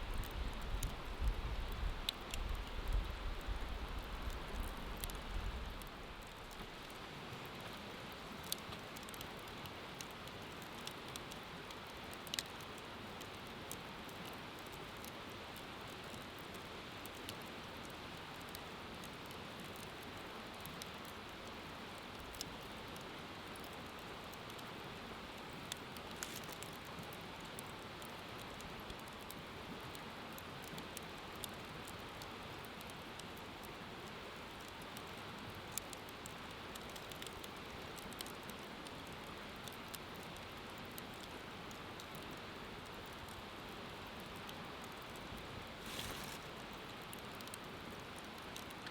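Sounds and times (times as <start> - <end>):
bonfire crackling: 0.0 - 48.9.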